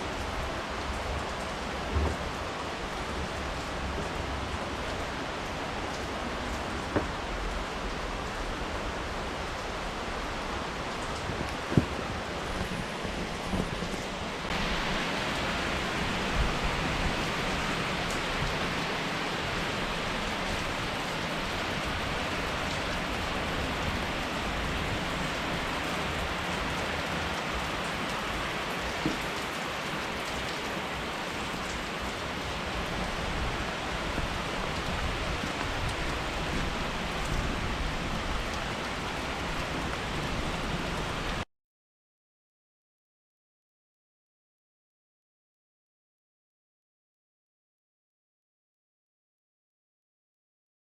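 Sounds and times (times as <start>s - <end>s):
steady rain: 0.0s - 41.5s.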